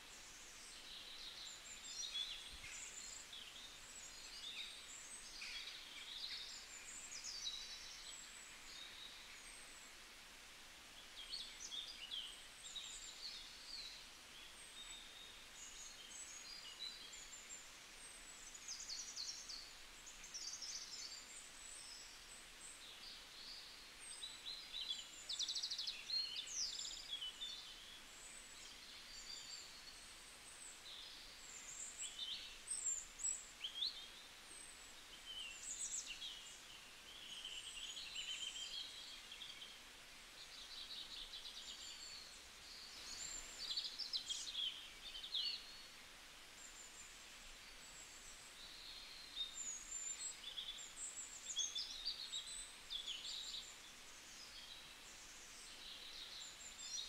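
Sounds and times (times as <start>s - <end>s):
small birds chirping: 0.0s - 10.1s, 10.9s - 57.0s
quiet hiss: 0.0s - 57.0s.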